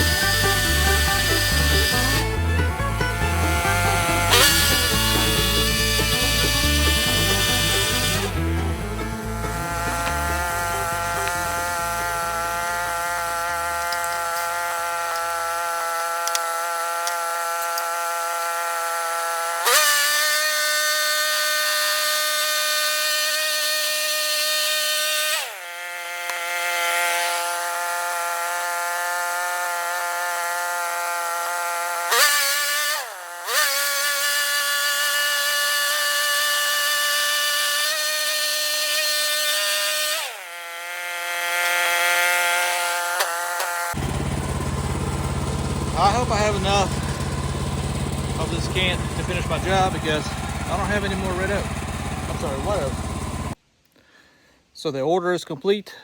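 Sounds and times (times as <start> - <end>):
saw blade cutting wood: 0.0 - 53.6
sawmill engine running: 0.0 - 53.6.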